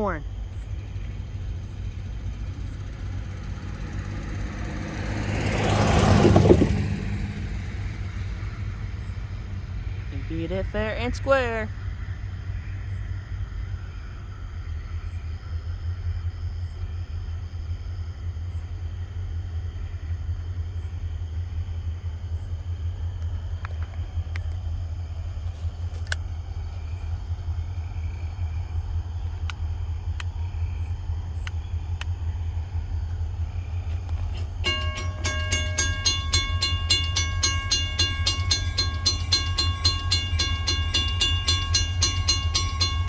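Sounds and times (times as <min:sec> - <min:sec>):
low engine rumble: 0:00.0 - 0:43.0.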